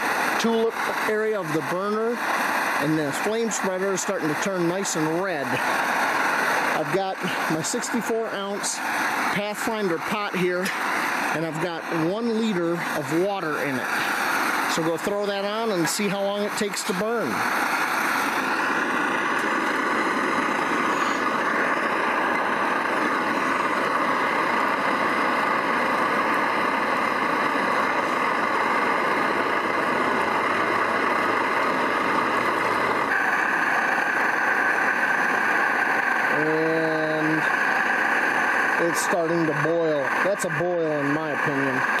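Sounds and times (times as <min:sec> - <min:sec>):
camping stove burner roaring: 0:00.0 - 0:42.0.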